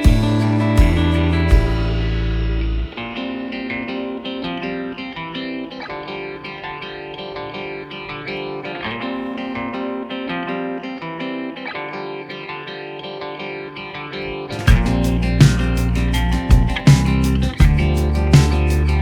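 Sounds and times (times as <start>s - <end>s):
plucked guitar music: 0.0s - 19.0s.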